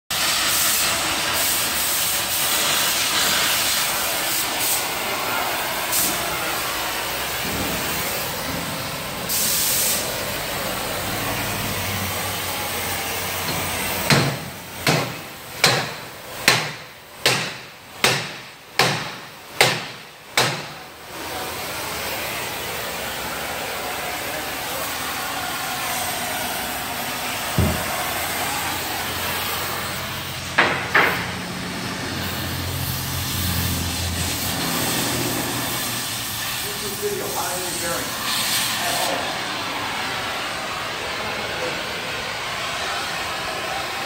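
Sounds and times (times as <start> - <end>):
cutting torch hissing: 0.1 - 44.0.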